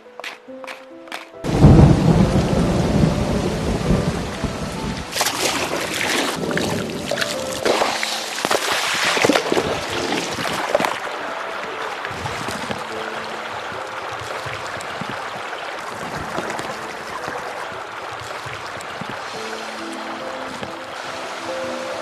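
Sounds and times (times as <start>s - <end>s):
faint background music: 0.0s - 22.0s
water trickling: 1.4s - 22.0s.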